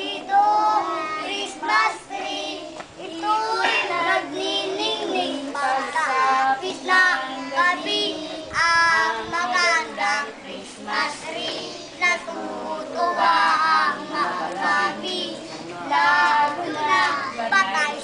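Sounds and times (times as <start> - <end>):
children singing a carol: 0.0 - 18.0.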